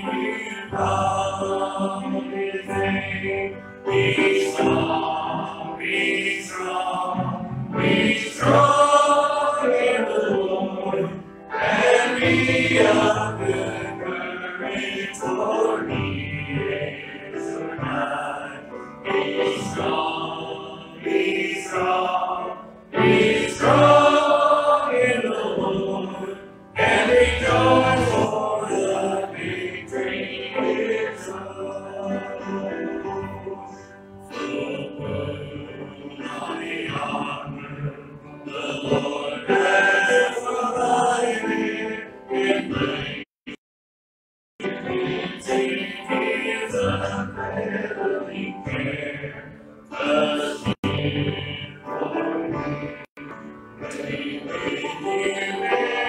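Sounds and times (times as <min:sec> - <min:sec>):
congregation singing a hymn: 0:00.0 - 0:43.3, 0:44.6 - 0:56.0.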